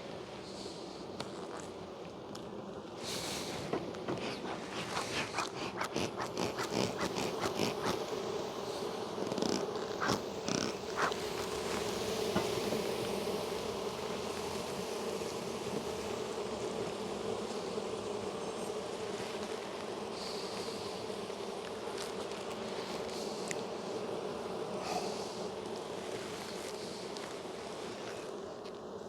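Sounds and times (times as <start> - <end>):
bee colony buzzing: 0.7 - 29.0.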